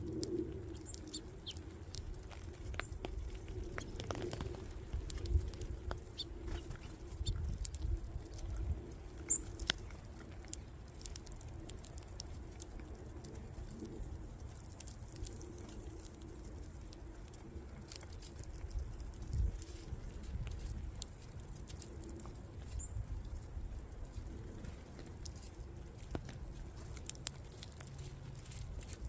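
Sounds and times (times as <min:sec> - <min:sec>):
light rain pattering: 0:00.0 - 0:29.0.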